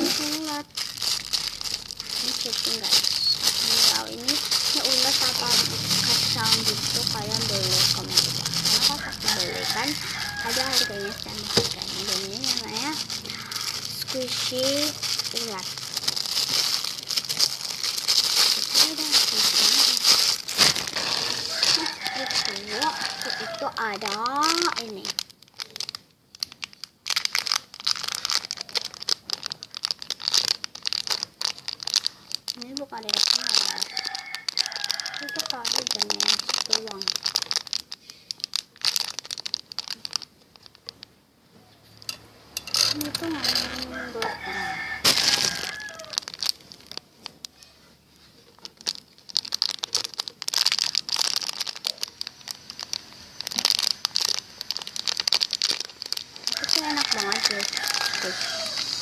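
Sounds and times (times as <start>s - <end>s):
plastic wrapping crinkling: 0.0s - 41.2s, 41.9s - 59.0s.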